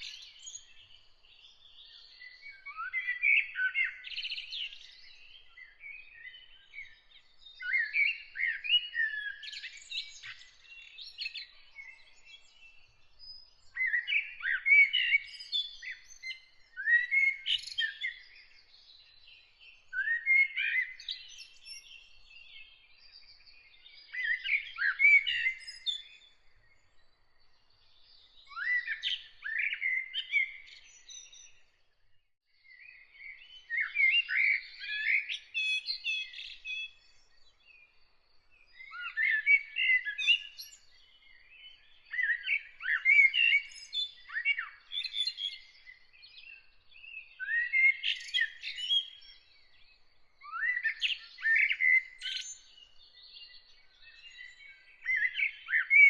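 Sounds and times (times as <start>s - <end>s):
songbird singing phrases: 0.0s - 56.0s.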